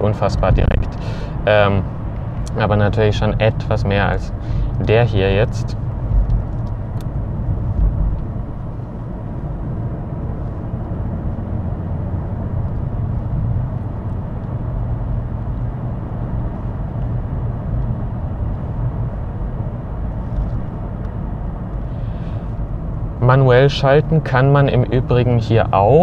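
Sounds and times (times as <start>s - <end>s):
car engine rumble: 0.0s - 26.0s
tyres on the road: 0.0s - 26.0s.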